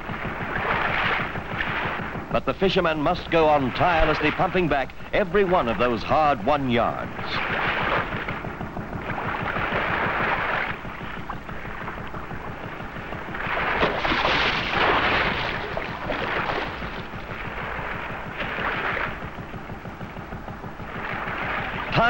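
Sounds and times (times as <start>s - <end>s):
boat engine low rumble: 0.0s - 22.0s
rushing water: 0.0s - 22.0s
wind: 0.0s - 22.0s.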